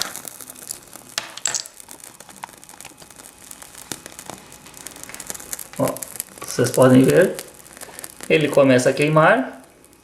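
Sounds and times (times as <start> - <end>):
tea bag crackling as it burns: 0.0 - 10.0.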